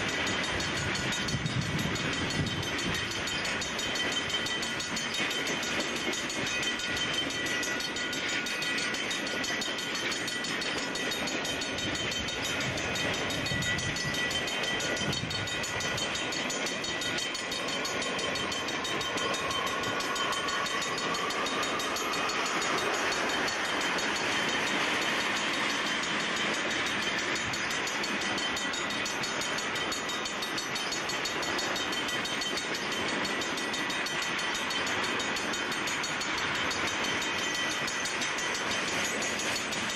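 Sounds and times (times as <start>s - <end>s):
thin high ringing tones: 0.0s - 39.9s
train wheels rumbling on rails: 0.0s - 39.9s.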